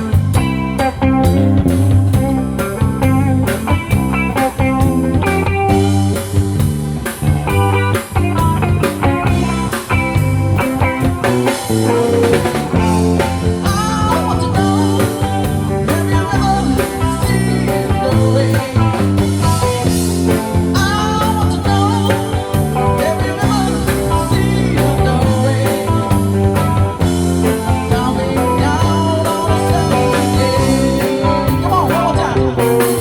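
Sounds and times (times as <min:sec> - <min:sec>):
rock music with guitar and drums: 0:00.0 - 0:33.0.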